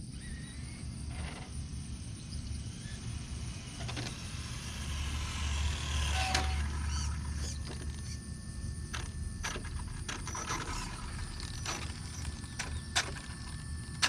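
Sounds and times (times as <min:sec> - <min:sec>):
electric motor whine of rc car: 0:00.0 - 0:14.0.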